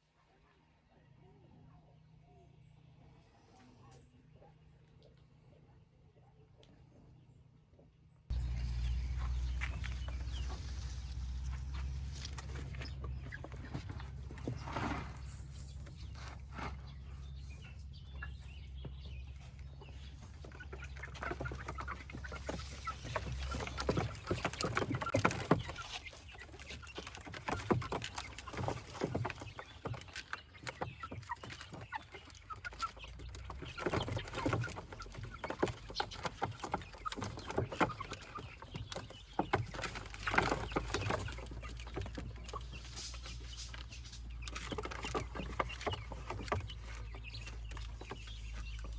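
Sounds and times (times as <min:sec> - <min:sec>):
chickens clucking: 0:03.0 - 0:48.9.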